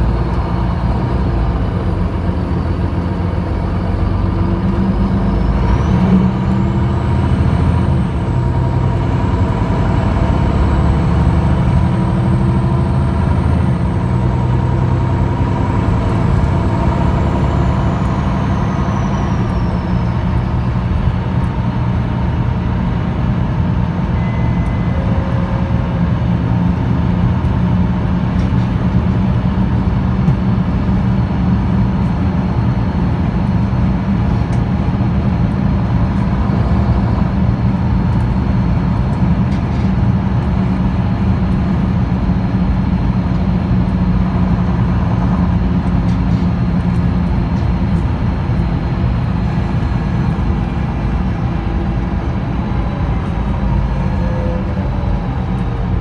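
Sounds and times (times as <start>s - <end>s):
diesel bus engine running: 0.0s - 56.0s
road and tyre noise: 0.0s - 56.0s.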